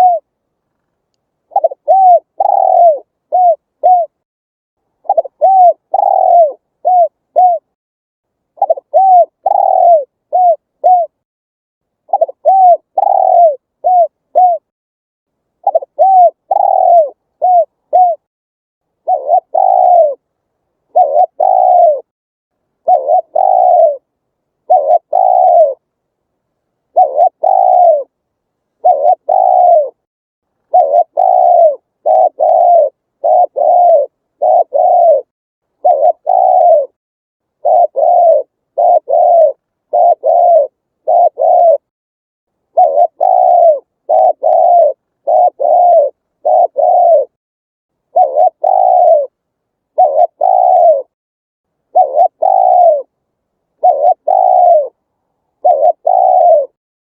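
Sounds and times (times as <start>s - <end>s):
dove cooing: 0.0s - 0.3s, 1.5s - 4.2s, 5.0s - 7.8s, 8.6s - 11.2s, 12.1s - 14.7s, 15.6s - 18.3s, 19.0s - 22.1s, 22.8s - 25.9s, 26.9s - 28.2s, 28.8s - 37.0s, 37.6s - 41.9s, 42.7s - 47.4s, 48.1s - 51.2s, 51.9s - 53.1s, 53.8s - 56.8s.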